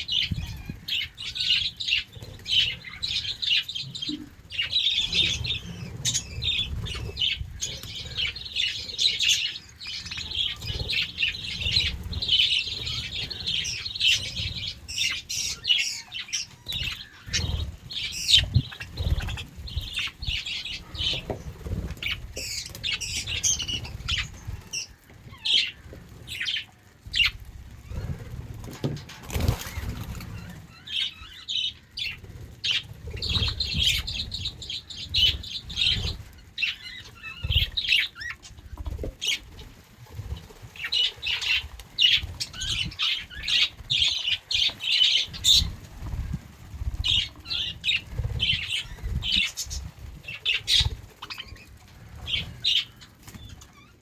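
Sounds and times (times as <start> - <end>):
budgerigars chirping and chattering: 0.0 - 54.0
wings fluttering: 0.0 - 54.0.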